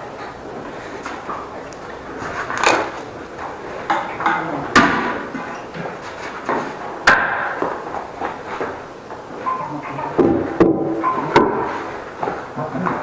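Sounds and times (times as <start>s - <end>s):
knocks and clatters in tiled room: 0.0s - 13.0s.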